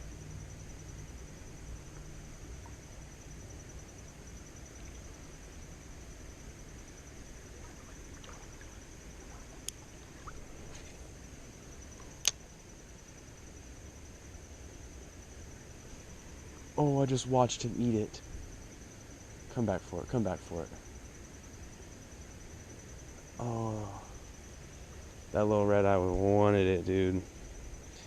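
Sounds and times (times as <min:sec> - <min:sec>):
high-pitched insect trill: 0:00.0 - 0:28.0
low background rumble: 0:00.0 - 0:28.0.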